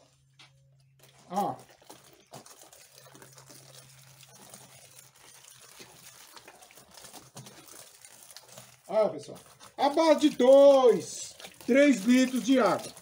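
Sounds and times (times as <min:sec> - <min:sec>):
water trickling onto corn husks: 0:00.0 - 0:13.0.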